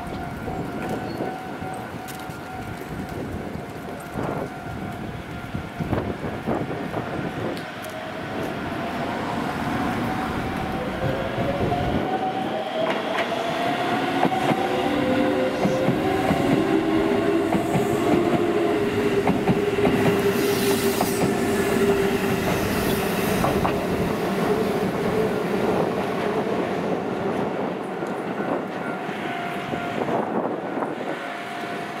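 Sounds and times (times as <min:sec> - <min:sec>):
electric train passing: 0:00.0 - 0:32.0
train whine: 0:00.0 - 0:32.0.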